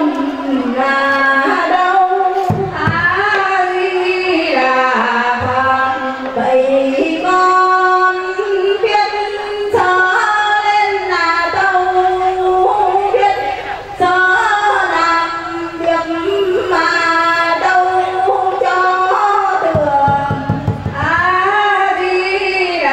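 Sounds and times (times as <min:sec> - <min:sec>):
woman singing a chant: 0:00.0 - 0:22.9.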